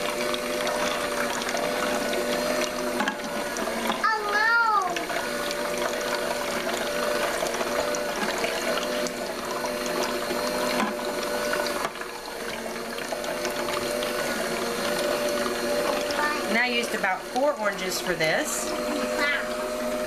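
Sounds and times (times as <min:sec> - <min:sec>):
juicer motor hum: 0:00.0 - 0:20.0.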